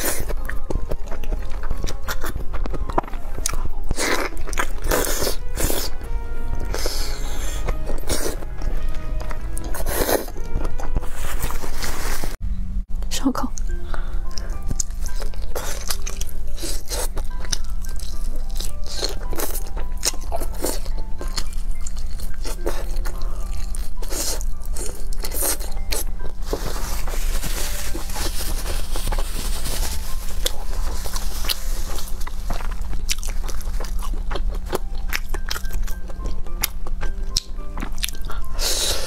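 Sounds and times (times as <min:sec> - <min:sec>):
crunchy chewing: 0:00.0 - 0:12.3, 0:13.6 - 0:39.0
background music: 0:00.0 - 0:39.0.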